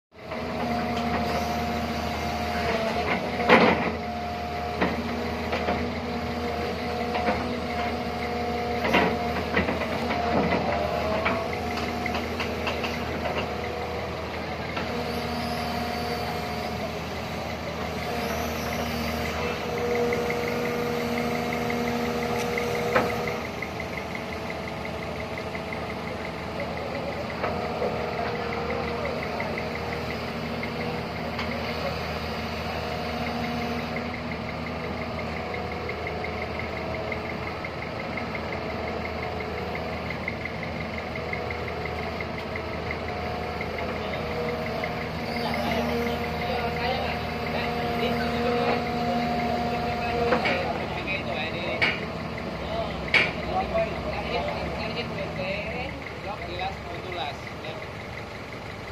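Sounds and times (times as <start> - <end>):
diesel excavator engine: 0.1 - 58.9
hydraulic whine: 0.2 - 58.9.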